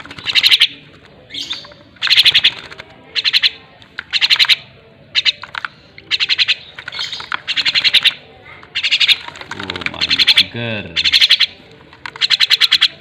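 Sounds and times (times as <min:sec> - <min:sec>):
birds harsh chattering calls: 0:00.0 - 0:13.0.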